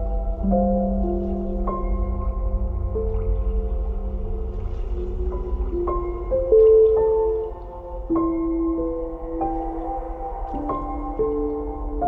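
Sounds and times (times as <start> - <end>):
slow ambient music: 0.0 - 12.0.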